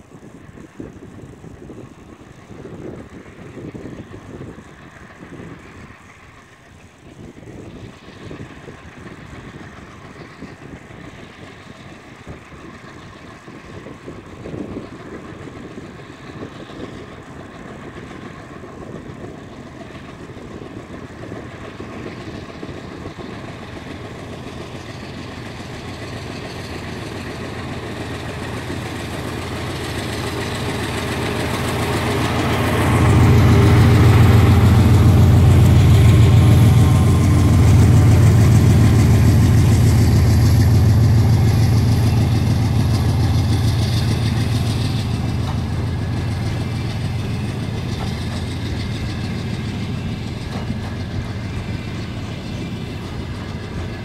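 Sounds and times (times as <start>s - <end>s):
diesel locomotive engine working: 0.0s - 54.0s.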